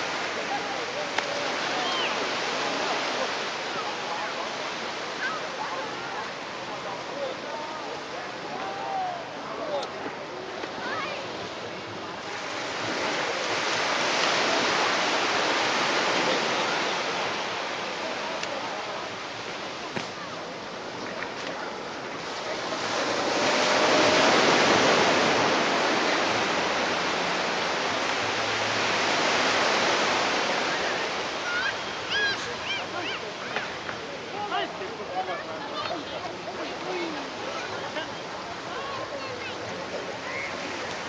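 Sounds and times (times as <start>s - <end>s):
sea waves washing on shore: 0.0s - 41.0s.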